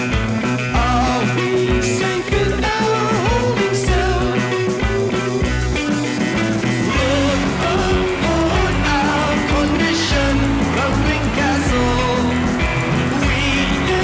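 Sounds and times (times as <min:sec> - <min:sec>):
music with steady beat and melody: 0:00.0 - 0:14.0.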